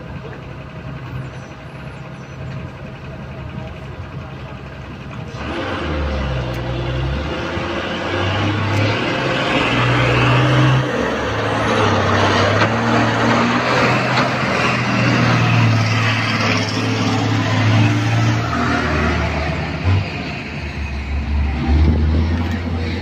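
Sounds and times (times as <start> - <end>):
diesel machinery engines revving: 0.0 - 23.0.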